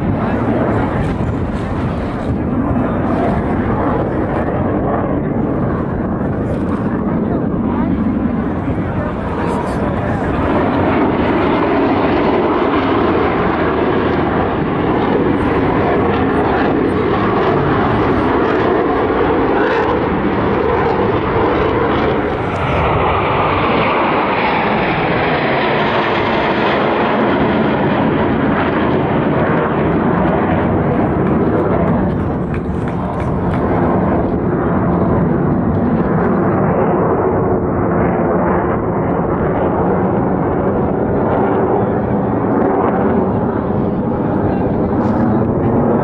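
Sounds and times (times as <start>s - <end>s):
jet engines flying past: 0.0s - 46.0s.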